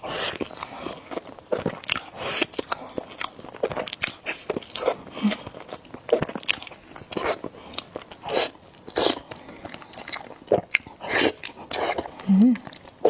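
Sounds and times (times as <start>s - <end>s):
biting and chewing noodles: 0.0s - 13.0s.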